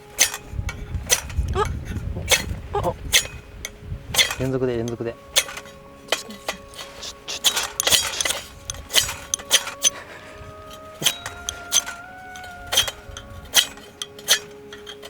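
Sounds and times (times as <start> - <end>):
fire striker metallic strikes: 0.0 - 15.0.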